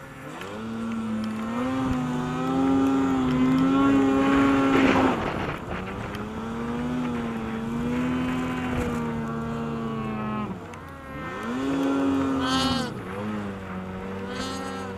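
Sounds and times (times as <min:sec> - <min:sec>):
snowmobile engine revving: 0:00.0 - 0:14.9.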